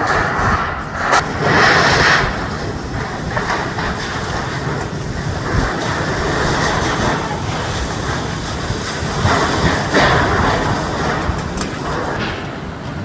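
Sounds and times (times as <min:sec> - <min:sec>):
wind gusting over microphone: 0:00.0 - 0:13.0.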